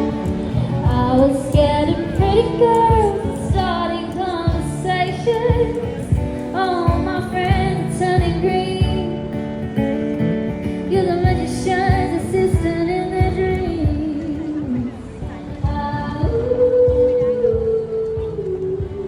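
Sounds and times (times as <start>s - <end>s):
woman singing: 0.0s - 9.9s, 10.7s - 19.0s
guitar accompaniment: 0.0s - 19.0s.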